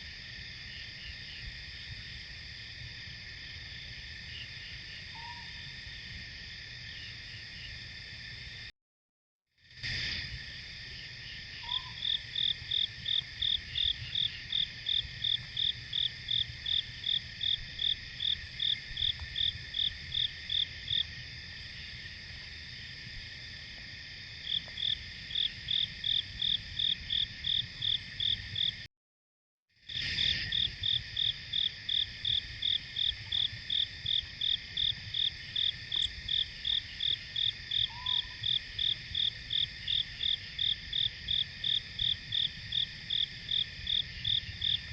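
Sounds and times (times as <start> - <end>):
cricket chirping: 0.0 - 8.7, 9.6 - 28.9, 29.8 - 44.9
high-pitched insect chorus: 0.0 - 8.7, 9.6 - 28.9, 29.8 - 44.9.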